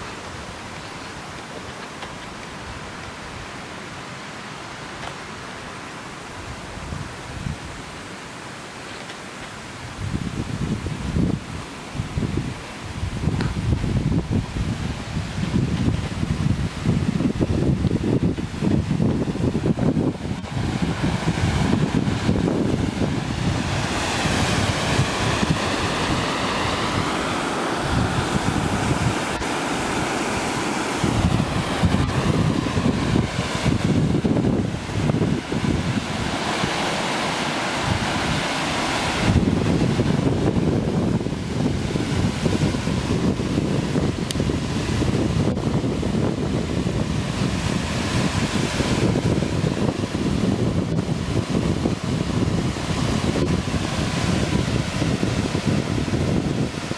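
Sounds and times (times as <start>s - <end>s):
waterfall rushing: 0.0s - 56.9s
wind buffeting microphone: 6.2s - 8.2s, 9.5s - 56.9s.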